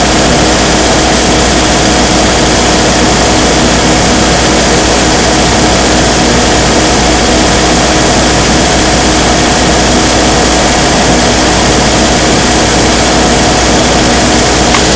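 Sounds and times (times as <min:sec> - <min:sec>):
diesel generator running: 0:00.0 - 0:14.9.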